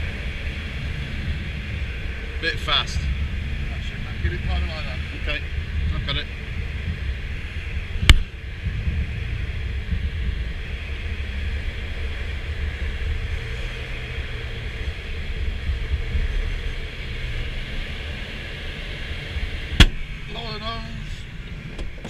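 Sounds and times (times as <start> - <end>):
plane engine drone: 0.0 - 22.0
rumble of airflow: 0.0 - 22.0.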